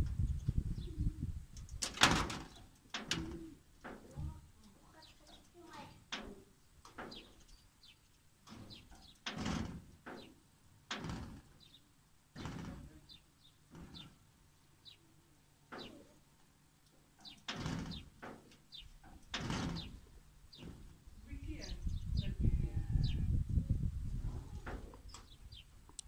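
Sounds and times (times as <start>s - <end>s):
small birds chirping: 0.1s - 1.8s, 2.4s - 9.4s, 10.0s - 23.8s, 24.5s - 26.0s.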